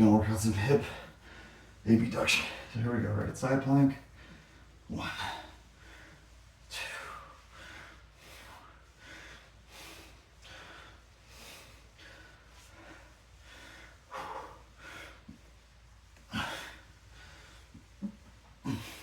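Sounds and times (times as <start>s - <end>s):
man breathing hard: 0.8s - 1.8s, 4.0s - 19.0s.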